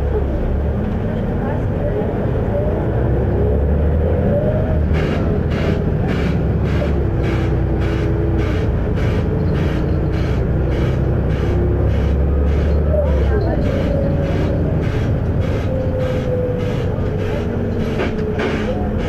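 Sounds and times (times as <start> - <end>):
bus diesel engine rumble: 0.0 - 19.0.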